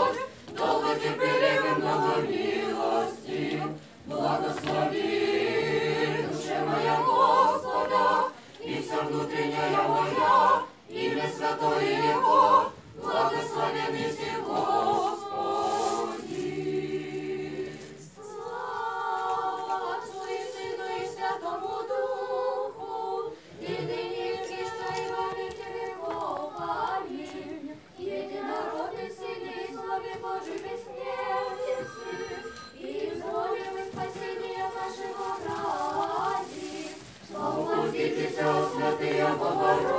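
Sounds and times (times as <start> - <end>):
choir singing chant a cappella: 0.0 - 39.9.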